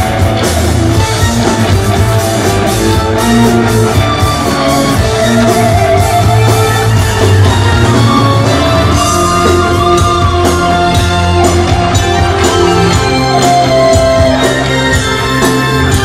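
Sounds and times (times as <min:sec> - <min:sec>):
bass guitar: 0:00.0 - 0:16.0
drum kit: 0:00.0 - 0:16.0
electric guitar: 0:00.0 - 0:16.0
keyboards: 0:00.0 - 0:16.0.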